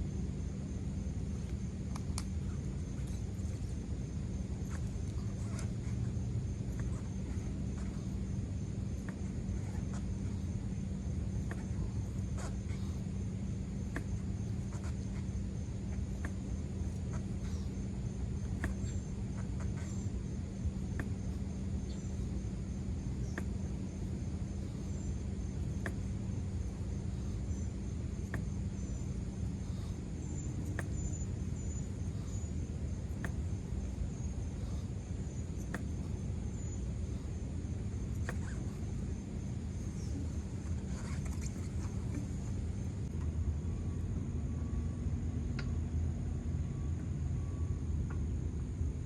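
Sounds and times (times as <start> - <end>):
insects chirping: 0.0 - 49.0
low rumble and hum: 0.0 - 49.0.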